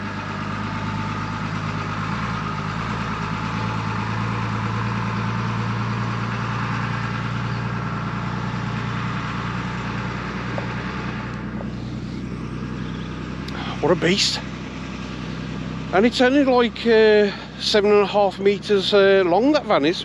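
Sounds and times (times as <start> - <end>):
truck diesel engine running: 0.0 - 20.0
tyres on gravel: 0.0 - 20.0.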